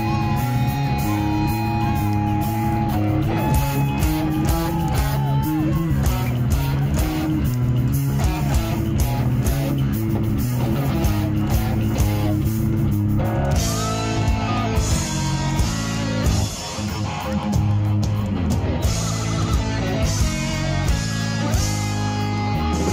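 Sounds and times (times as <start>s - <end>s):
bass guitar: 0.0s - 22.9s
distorted electric guitars: 0.0s - 22.9s
drum kit: 0.0s - 22.9s.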